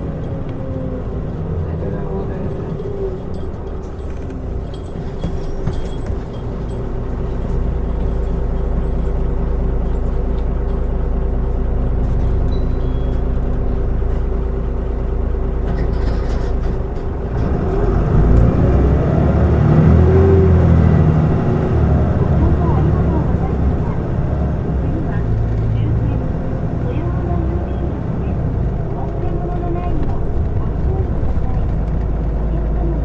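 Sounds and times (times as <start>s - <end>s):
bus diesel engine rumbling: 0.0s - 33.0s.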